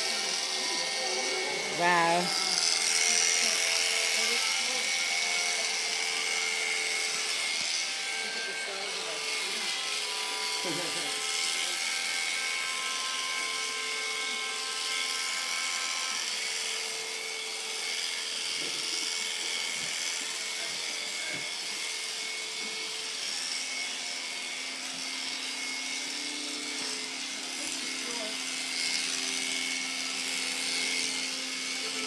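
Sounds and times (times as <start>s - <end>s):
electric shears buzzing: 0.0s - 32.0s.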